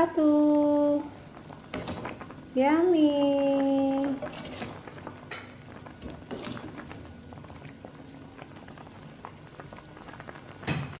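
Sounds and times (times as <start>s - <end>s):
broth boiling and bubbling: 0.0s - 11.0s.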